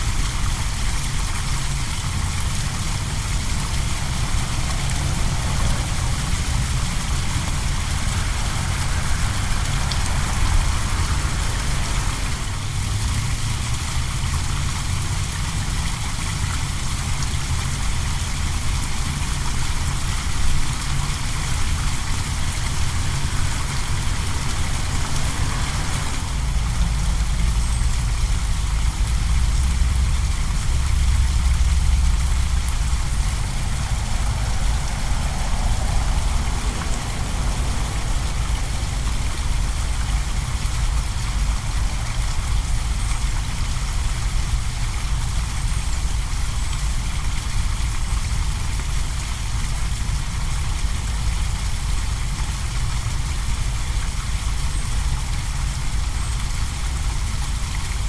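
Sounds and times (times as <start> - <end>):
low rumble: 0.0 - 51.9
waterfall splashing into pond: 0.0 - 58.0.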